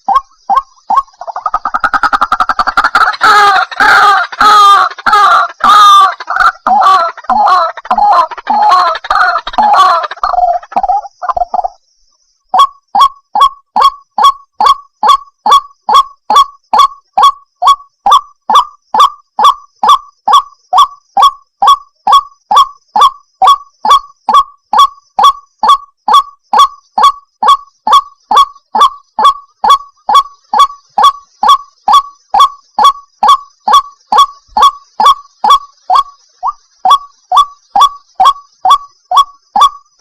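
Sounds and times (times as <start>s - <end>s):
waterhen calling: 0.0s - 11.8s, 19.4s - 39.9s.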